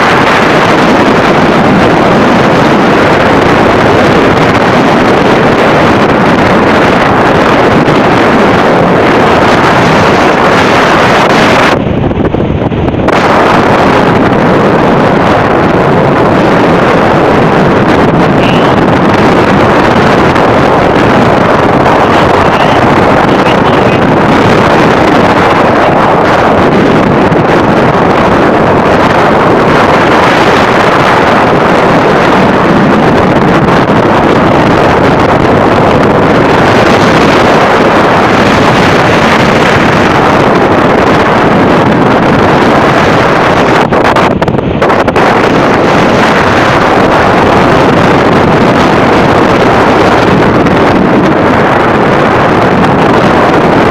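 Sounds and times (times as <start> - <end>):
wind blowing across microphone: 0.0 - 53.9.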